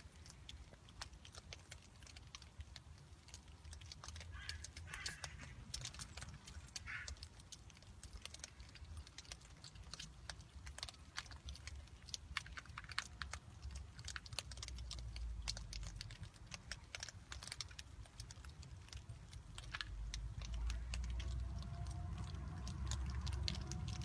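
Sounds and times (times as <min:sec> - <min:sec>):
hedgehogs crunching kibble: 0:00.0 - 0:24.0.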